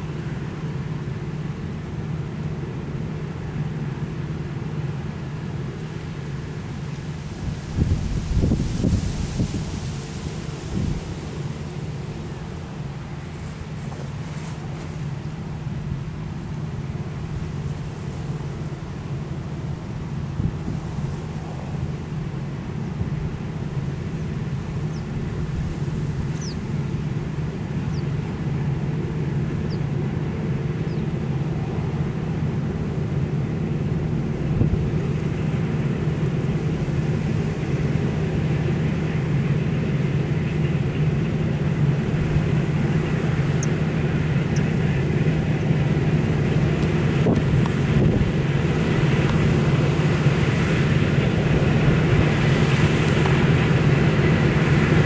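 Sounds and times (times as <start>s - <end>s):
combine harvester engine drone: 0.0s - 55.0s.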